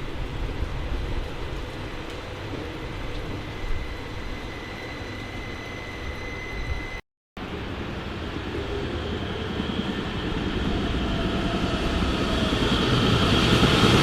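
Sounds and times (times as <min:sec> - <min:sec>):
train rumble: 0:00.0 - 0:14.0
faint train whine: 0:00.1 - 0:14.0.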